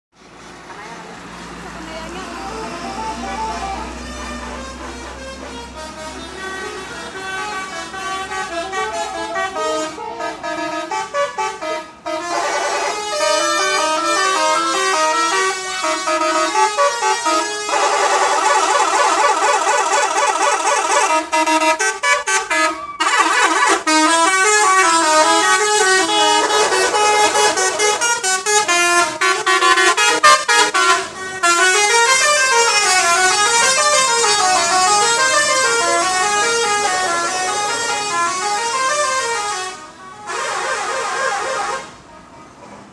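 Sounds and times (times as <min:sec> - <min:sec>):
musical bus horns playing tunes: 0:01.2 - 0:42.9.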